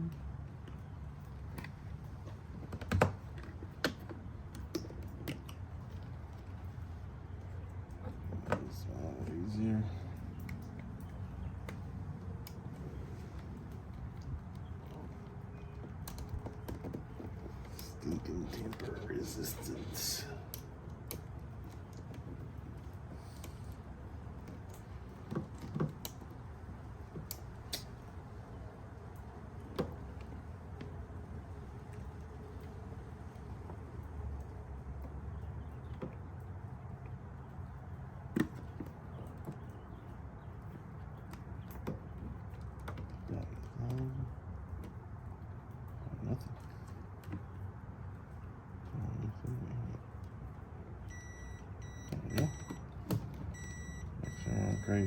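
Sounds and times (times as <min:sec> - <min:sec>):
low steady background: 0:00.0 - 0:55.0
low steady hum: 0:00.0 - 0:55.0.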